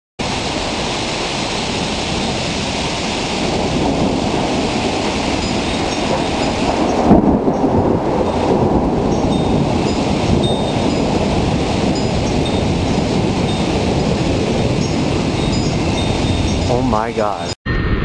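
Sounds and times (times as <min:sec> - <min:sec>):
heavy rain falling: 0:00.2 - 0:17.6
low thunder rumble: 0:00.2 - 0:18.0.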